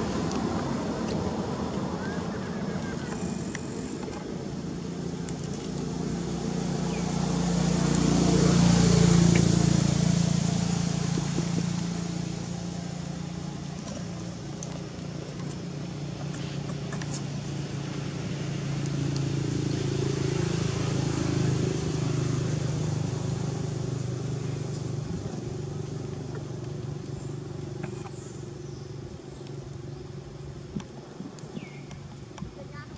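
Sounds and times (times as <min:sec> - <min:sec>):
vehicle engine hum: 0:00.0 - 0:32.9.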